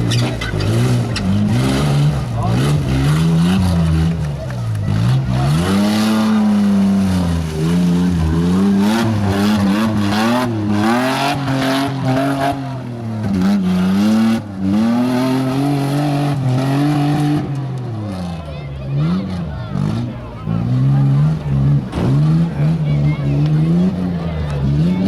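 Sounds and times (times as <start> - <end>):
engine revving hard: 0.0 - 25.0.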